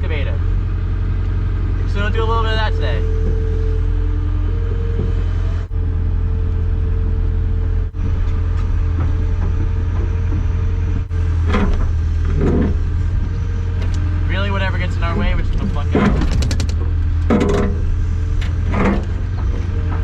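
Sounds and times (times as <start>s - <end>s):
excavator diesel engine droning: 0.0s - 20.0s.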